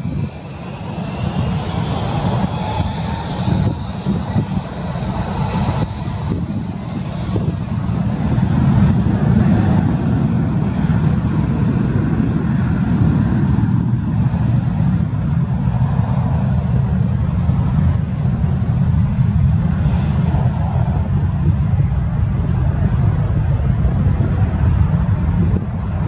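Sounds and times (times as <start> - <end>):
jet engines rumbling at takeoff: 0.0 - 26.0.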